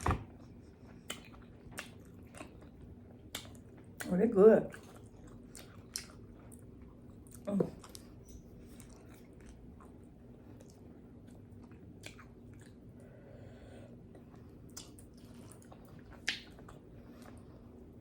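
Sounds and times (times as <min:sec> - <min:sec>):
person chewing food: 0:00.0 - 0:04.1, 0:04.7 - 0:18.0.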